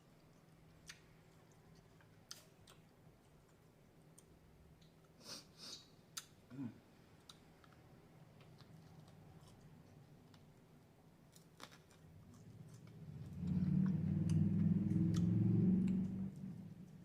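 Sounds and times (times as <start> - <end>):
person chewing: 0.2 - 6.3, 8.4 - 10.6, 11.3 - 17.0.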